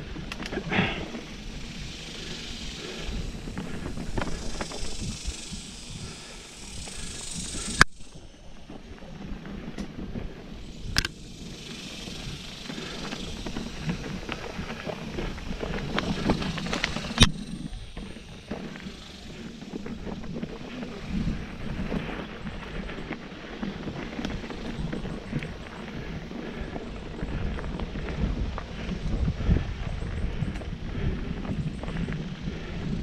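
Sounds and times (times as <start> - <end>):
bike rattling over bumps: 0.0 - 33.0
bike tyres rolling on dirt: 0.0 - 33.0
wind on microphone: 0.0 - 33.0.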